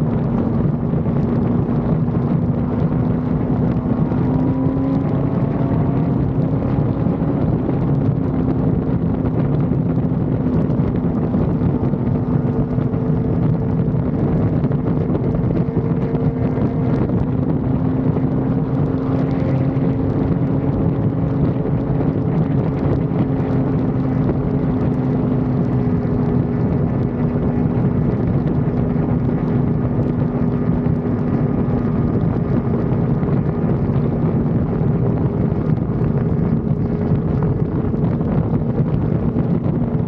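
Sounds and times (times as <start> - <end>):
motorcycle engine cruising: 0.0 - 40.0
wind rushing over microphone: 0.0 - 40.0.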